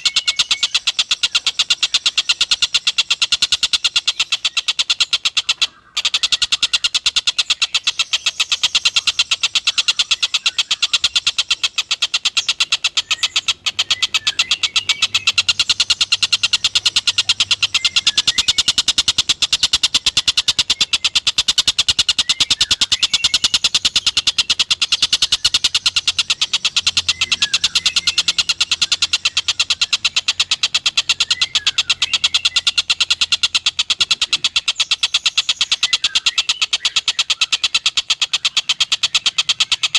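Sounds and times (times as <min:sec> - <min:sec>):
kingfisher rattling trill: 0:00.0 - 0:39.9.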